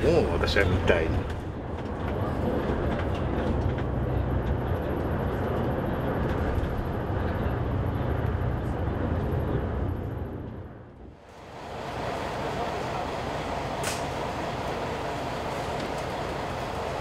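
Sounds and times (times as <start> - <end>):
coach engine and road noise: 0.0 - 17.0.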